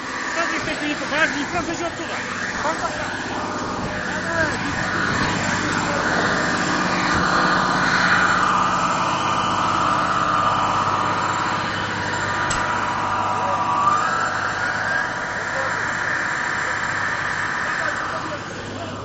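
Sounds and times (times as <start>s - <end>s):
fire engine engine running: 0.0s - 19.0s
whine rising and falling: 0.0s - 19.0s.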